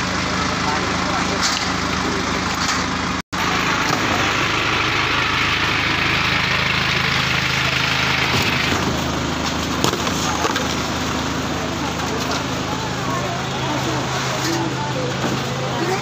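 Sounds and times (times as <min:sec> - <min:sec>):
crowd voices: 0:00.0 - 0:16.0
low engine hum: 0:00.0 - 0:16.0.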